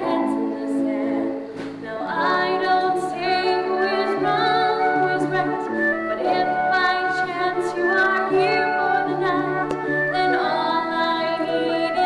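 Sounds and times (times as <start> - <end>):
instrumental accompaniment: 0.0 - 12.0
woman singing: 0.0 - 12.0.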